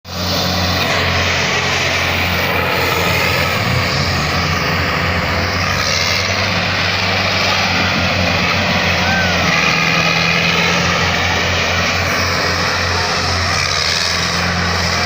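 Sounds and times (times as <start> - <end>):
tractor engine running: 0.1 - 15.0.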